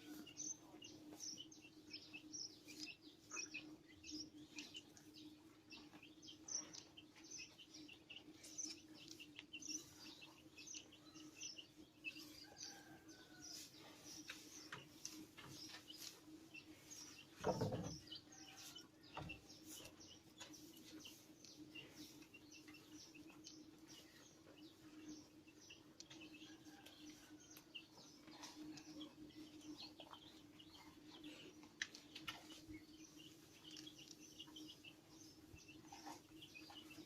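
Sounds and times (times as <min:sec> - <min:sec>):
faint small birds chirping: 0:00.0 - 0:37.0.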